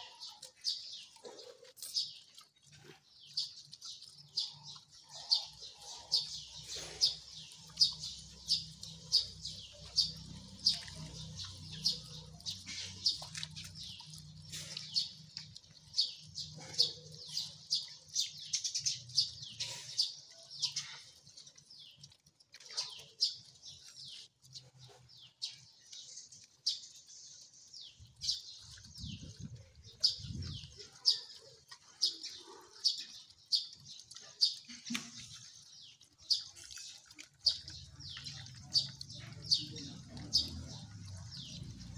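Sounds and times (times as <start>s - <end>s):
dogs chewing and smacking: 0.0s - 41.9s.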